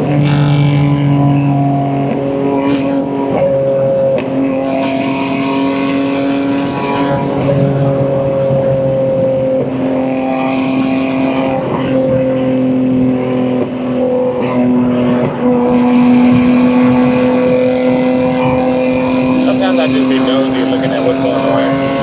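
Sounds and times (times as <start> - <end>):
car exhaust at steady cruise: 0.0 - 22.0.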